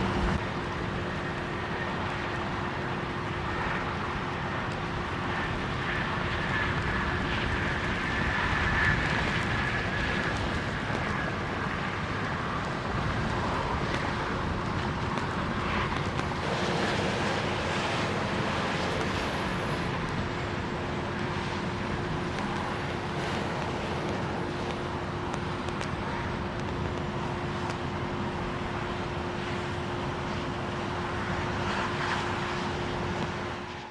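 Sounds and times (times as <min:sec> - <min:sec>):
traffic noise: 0:00.0 - 0:33.8
steady engine hum: 0:00.0 - 0:33.9.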